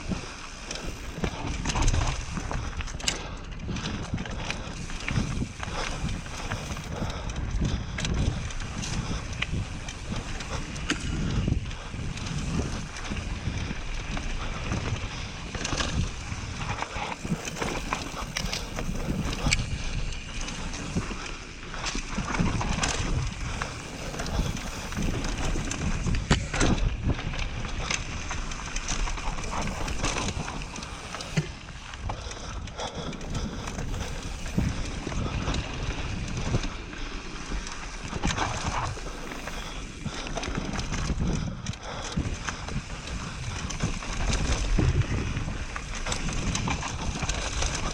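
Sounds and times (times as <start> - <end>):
bike clattering and rattling: 0.0 - 47.9
wind rushing over microphone: 0.0 - 47.9.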